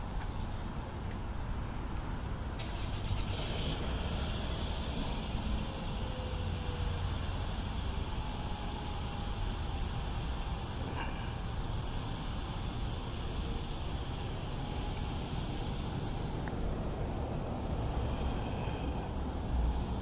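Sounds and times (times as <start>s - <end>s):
road traffic low rumble: 0.0s - 20.0s.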